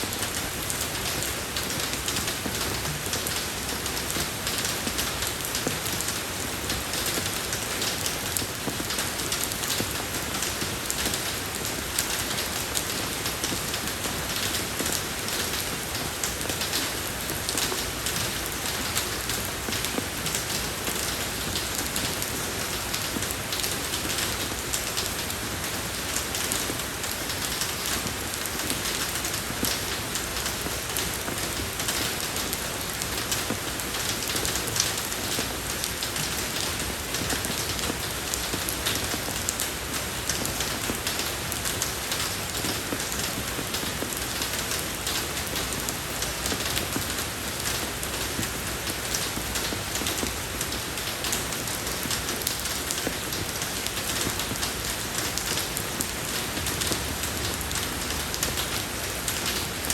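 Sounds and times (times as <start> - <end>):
rain falling on a road: 0.0 - 59.9.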